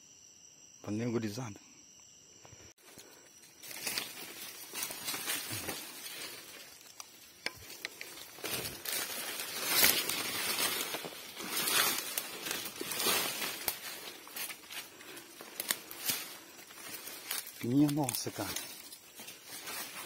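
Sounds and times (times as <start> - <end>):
leaves and brush rustling: 2.8 - 20.0
twigs snapping: 3.6 - 20.0.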